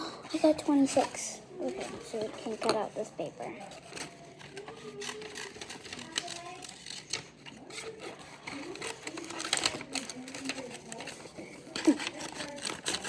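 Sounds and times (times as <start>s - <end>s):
scissors cutting paper: 0.8s - 13.0s.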